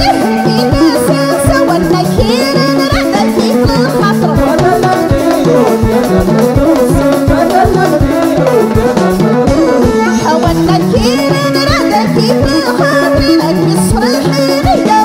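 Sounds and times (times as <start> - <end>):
drum kit beat: 0.0 - 15.0
melodic instrument line: 0.0 - 15.0.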